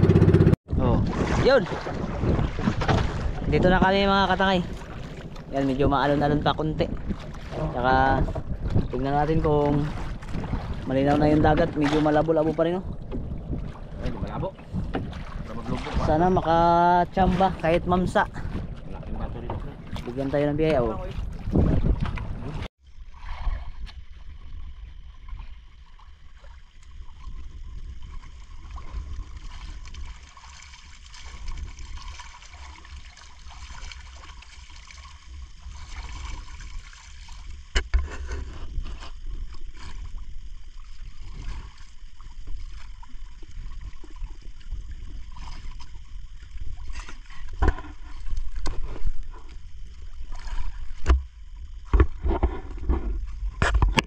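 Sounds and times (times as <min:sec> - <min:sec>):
wind rumble on microphone: 0:00.0 - 0:30.5, 0:35.0 - 0:54.0
water sloshing against a boat hull: 0:00.0 - 0:54.0.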